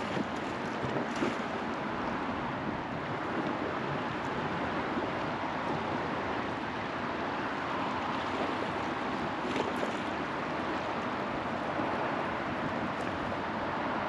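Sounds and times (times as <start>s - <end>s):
river water rippling: 0.0s - 14.0s.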